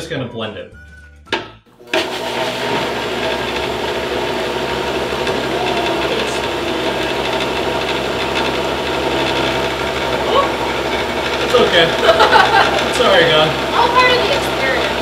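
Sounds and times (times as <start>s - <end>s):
blender running: 1.7s - 15.0s.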